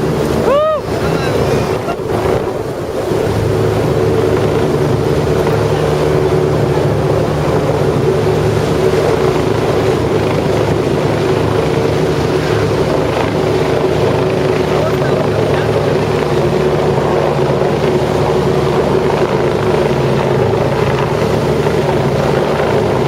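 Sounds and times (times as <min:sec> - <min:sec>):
helicopter engine whine: 0:00.0 - 0:23.0
helicopter rotor chopping: 0:00.0 - 0:23.0
wind blasting microphone: 0:00.0 - 0:23.0.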